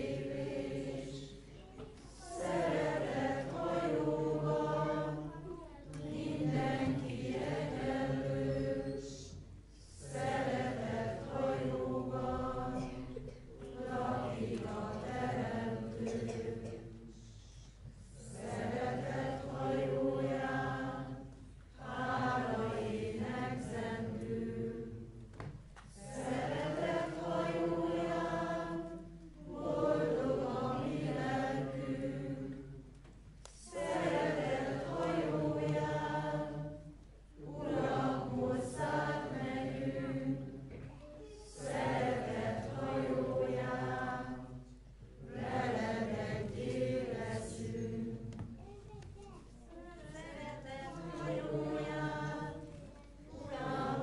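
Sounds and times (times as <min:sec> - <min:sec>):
crowd singing together: 0:00.0 - 0:48.6, 0:50.0 - 0:54.0.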